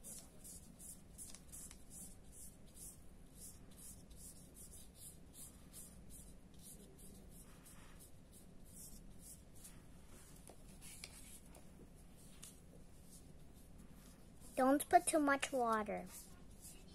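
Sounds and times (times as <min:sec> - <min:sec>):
paintbrush scratching on paper: 0:00.0 - 0:16.9.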